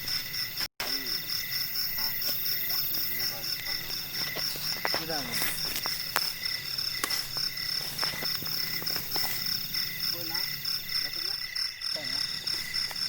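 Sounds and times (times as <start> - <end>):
crickets trilling: 0.0 - 13.0
frogs croaking: 0.0 - 13.0.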